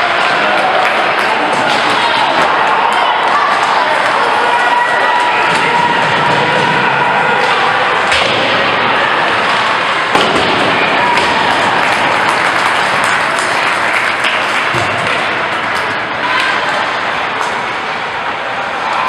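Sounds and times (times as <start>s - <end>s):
spectators shouting and cheering: 0.0s - 19.0s.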